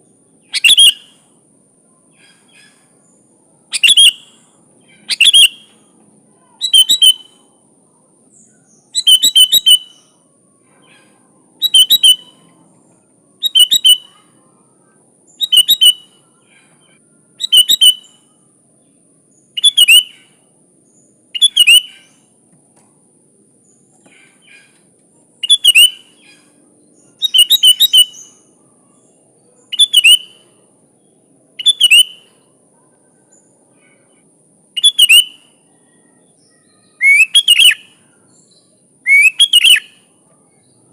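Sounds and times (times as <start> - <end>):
bird chirping phrases: 0.0 - 22.4, 23.6 - 40.9.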